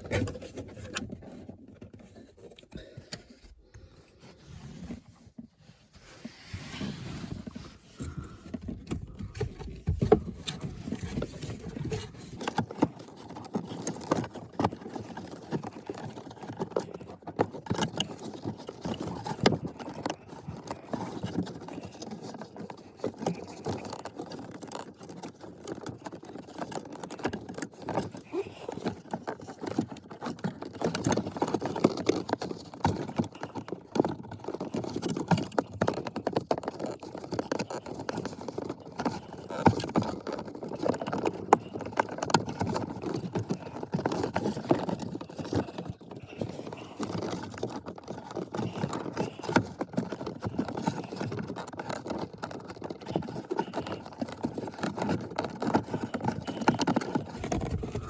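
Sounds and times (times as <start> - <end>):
filter rustling and scraping: 0.0 - 58.0.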